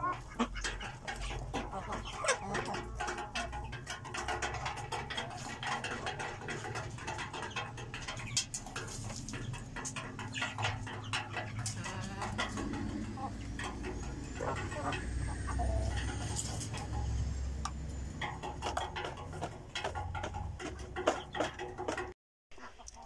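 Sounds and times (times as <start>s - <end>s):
beaks pecking metal trough: 0.0s - 22.2s
hens clucking softly: 0.0s - 23.0s.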